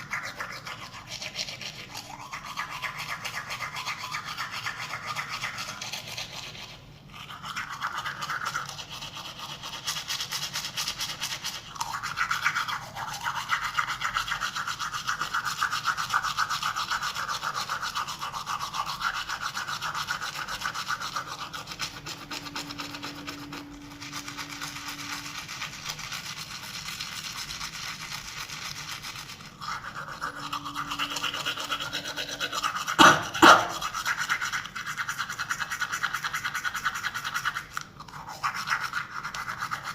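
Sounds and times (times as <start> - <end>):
toothbrush scrubbing teeth: 0.0 - 39.9.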